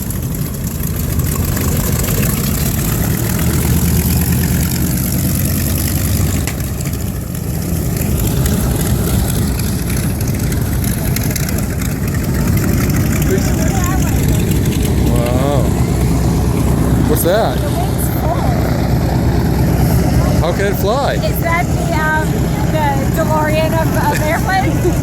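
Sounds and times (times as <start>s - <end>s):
radial engine idling with propeller: 0.0s - 25.0s.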